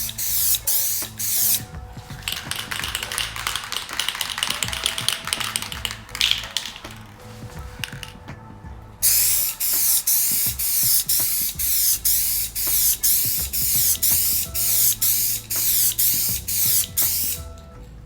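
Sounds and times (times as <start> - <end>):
aerosol spray can bursts: 0.0 - 7.0, 9.0 - 17.5.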